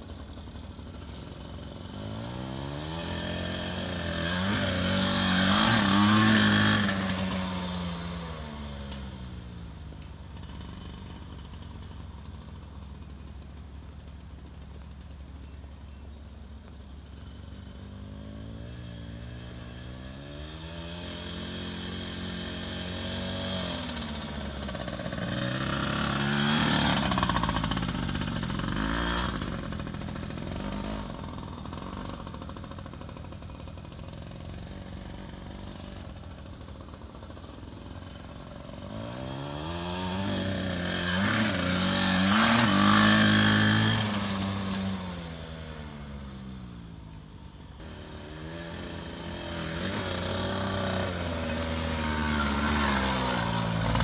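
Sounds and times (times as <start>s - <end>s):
dirt bike engine revving: 0.2s - 9.6s, 17.1s - 47.0s, 47.7s - 54.0s.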